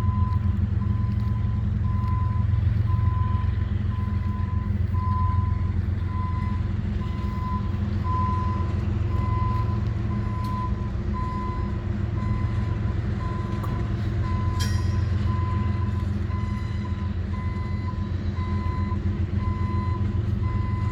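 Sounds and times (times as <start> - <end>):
train diesel engine rumbling: 0.0 - 20.9.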